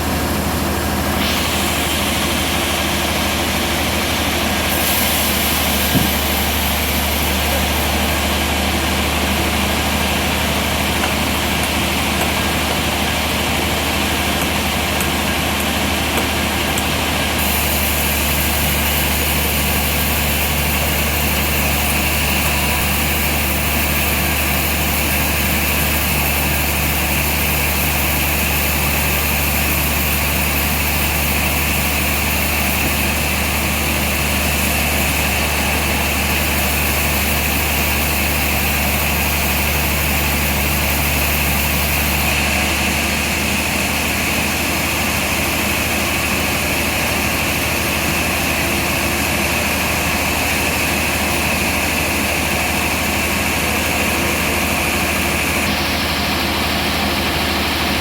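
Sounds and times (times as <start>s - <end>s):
low motor hum: 0.0s - 58.0s
high saw hiss: 1.1s - 8.5s, 17.4s - 58.0s.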